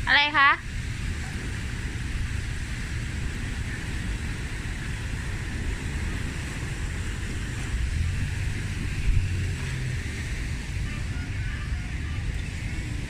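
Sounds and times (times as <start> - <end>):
steady rushing hiss: 0.0 - 13.0
wind buffeting microphone: 0.0 - 13.0.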